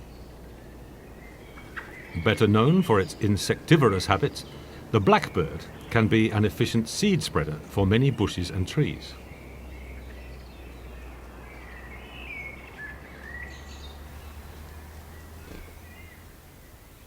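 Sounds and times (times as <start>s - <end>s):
low outdoor rumble: 0.0s - 17.0s
songbird singing: 0.0s - 17.0s.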